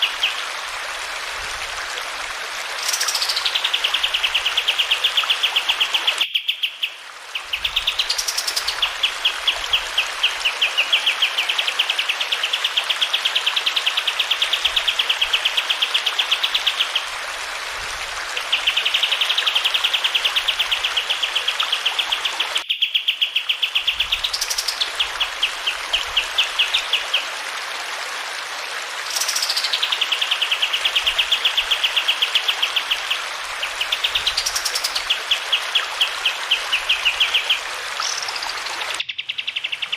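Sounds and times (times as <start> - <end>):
running water hiss: 0.0 - 22.6, 23.4 - 39.0.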